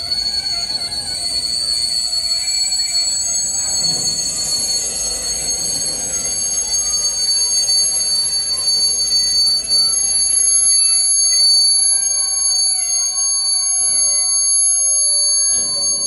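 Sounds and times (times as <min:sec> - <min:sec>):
train rumbling past: 0:00.0 - 0:16.0
train wheels squealing: 0:00.0 - 0:16.0.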